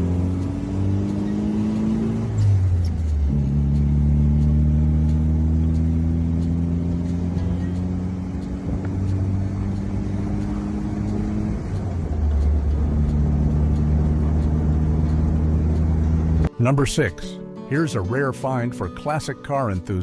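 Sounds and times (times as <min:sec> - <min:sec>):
car engine running: 0:00.0 - 0:16.5.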